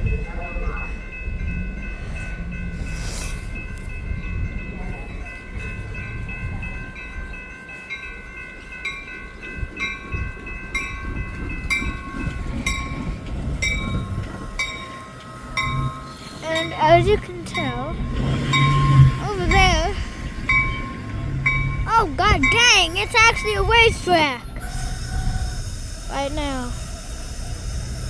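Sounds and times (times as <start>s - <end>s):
high-pitched ringing tones: 0.0s - 28.0s
train rumbling: 0.0s - 28.0s.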